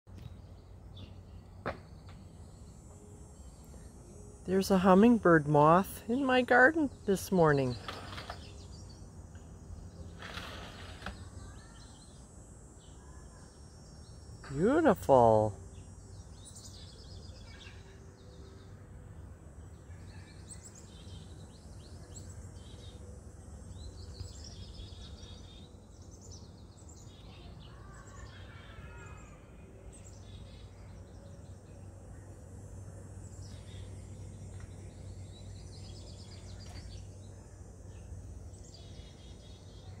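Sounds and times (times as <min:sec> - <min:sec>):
low background hum: 0:00.1 - 0:40.0
songbirds chirping: 0:00.1 - 0:40.0.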